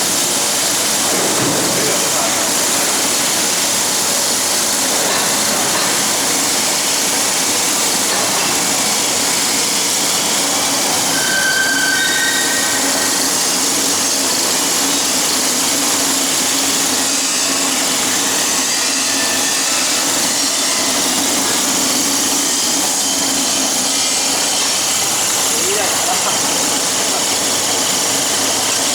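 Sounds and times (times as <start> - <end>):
machine whirring with low hum: 0.0 - 28.9.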